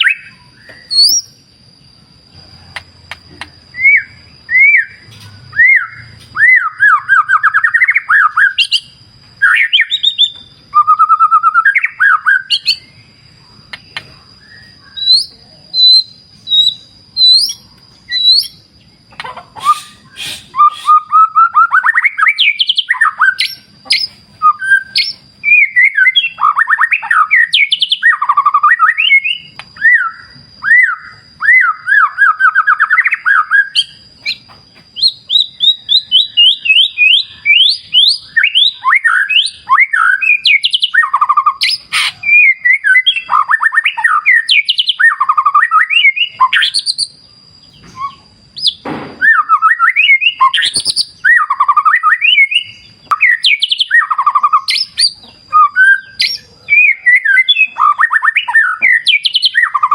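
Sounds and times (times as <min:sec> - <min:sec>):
songbird trills and whistles: 0:00.0 - 0:59.9.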